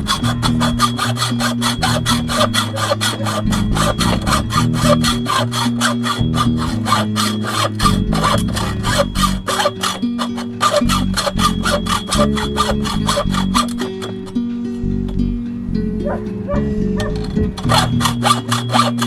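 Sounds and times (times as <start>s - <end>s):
hacksaw cutting metal: 0.0s - 14.5s, 16.0s - 19.0s.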